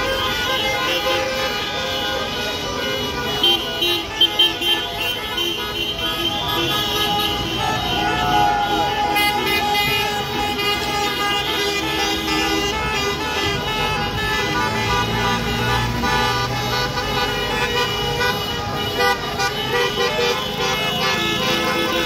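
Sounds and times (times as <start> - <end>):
car horns honking: 0.0 - 22.0
slow-moving traffic: 0.0 - 22.0.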